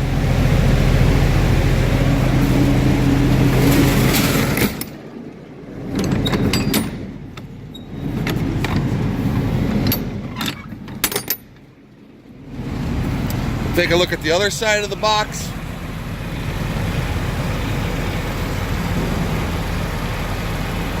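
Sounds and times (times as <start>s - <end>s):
refrigeration unit humming: 0.0s - 21.0s
uneven rumble: 0.0s - 21.0s.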